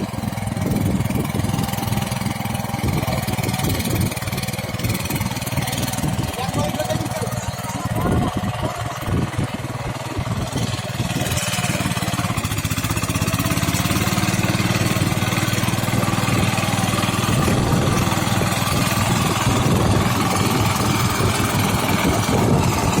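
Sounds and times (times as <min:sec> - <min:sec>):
tractor diesel engine chugging: 0:00.0 - 0:23.0.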